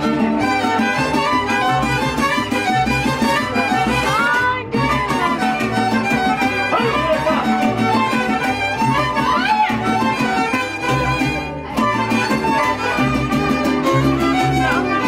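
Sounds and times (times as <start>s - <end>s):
strummed guitar: 0.0s - 15.0s
violin melody with sliding notes: 0.0s - 15.0s.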